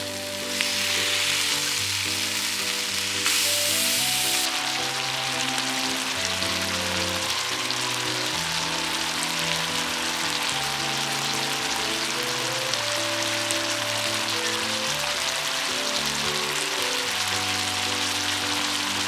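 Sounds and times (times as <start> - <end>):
background music: 0.0 - 19.0
food sizzling in a pan: 0.0 - 19.0.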